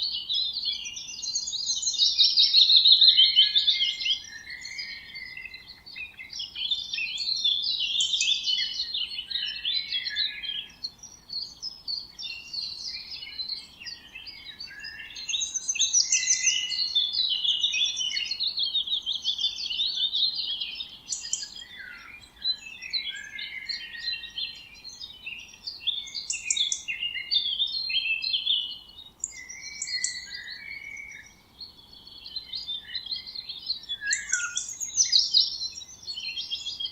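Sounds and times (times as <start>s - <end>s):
songbirds chorus: 0.0s - 36.9s.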